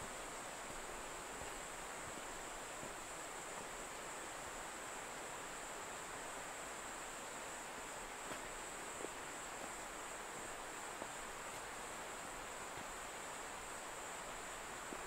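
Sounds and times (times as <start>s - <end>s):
high insect drone: 0.0s - 15.0s
stream rushing: 0.0s - 15.0s.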